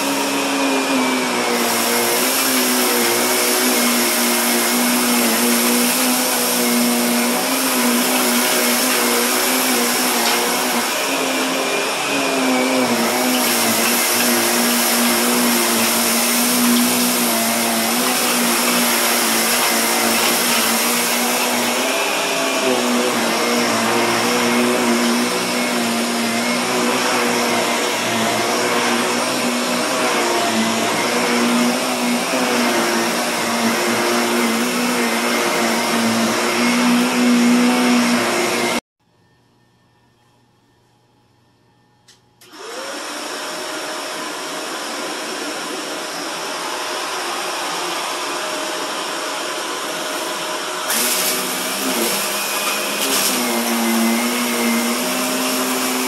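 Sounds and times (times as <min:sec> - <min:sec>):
vacuum cleaner running: 0:00.0 - 0:38.8, 0:42.4 - 0:56.0.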